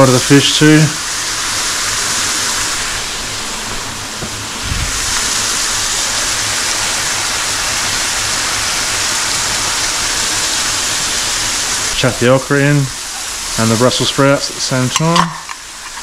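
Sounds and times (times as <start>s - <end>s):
fish and onion sizzling in oil: 0.0s - 16.0s.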